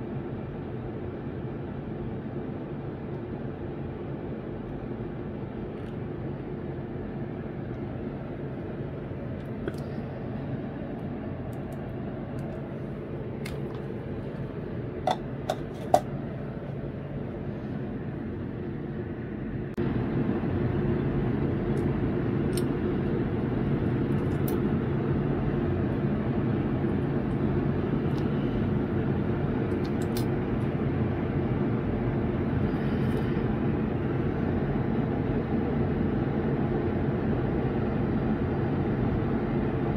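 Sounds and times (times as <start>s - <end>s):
low hum and rumble: 0.0s - 39.9s.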